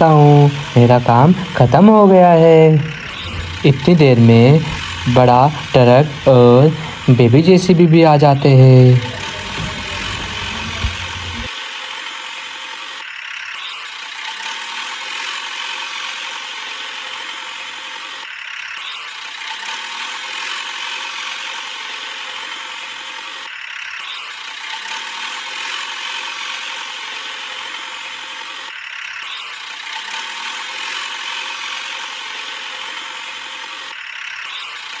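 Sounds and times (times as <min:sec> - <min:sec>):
mechanical ratcheting whir: 0:00.0 - 0:35.0.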